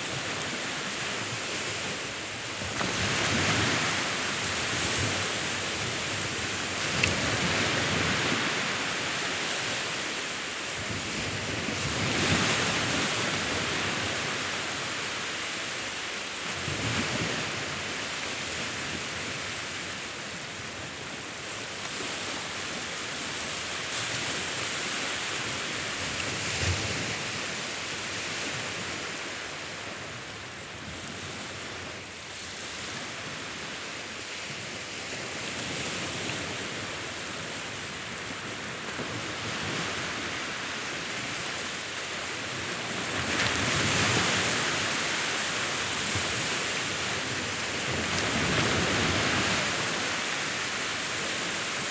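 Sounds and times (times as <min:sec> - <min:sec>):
sea waves washing onto shore: 0:00.0 - 0:51.9.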